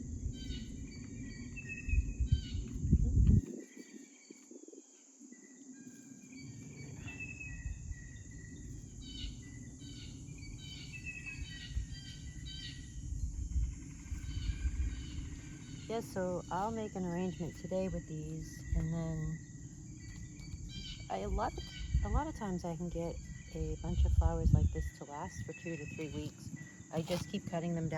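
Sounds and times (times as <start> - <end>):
high insect drone: 0.0 - 27.9
songbirds chirping: 0.0 - 27.9
wind rumble on microphone: 0.0 - 27.9.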